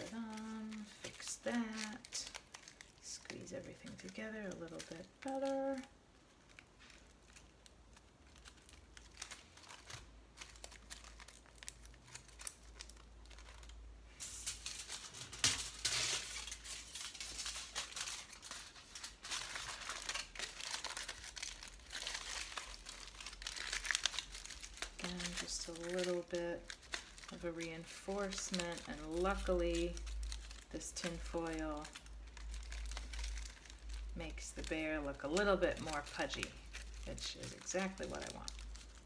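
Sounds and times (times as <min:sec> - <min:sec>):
aluminium foil crinkling: 0:00.0 - 0:39.0.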